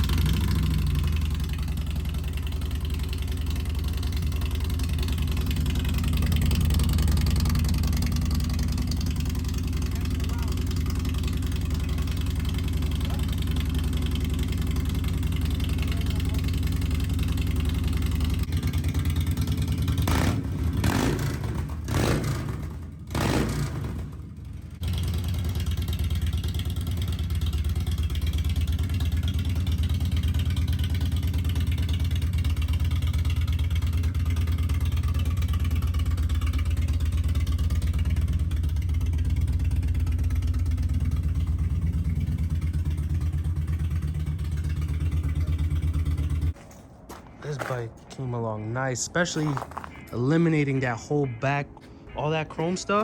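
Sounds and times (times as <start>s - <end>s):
motorcycle engine revving and idling: 0.0s - 46.6s.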